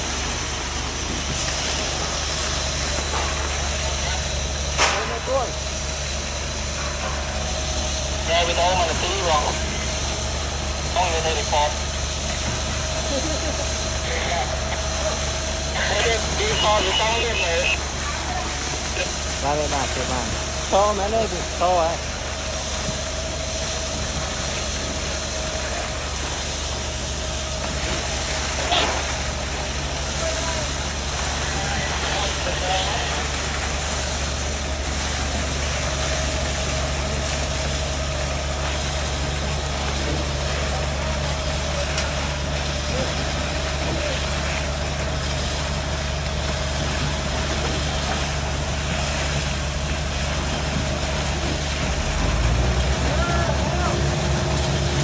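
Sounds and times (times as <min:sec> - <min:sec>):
faint steady whine: 0:00.0 - 0:52.4
concrete pump rumbling: 0:00.0 - 0:55.0
diesel engine running: 0:00.0 - 0:55.0.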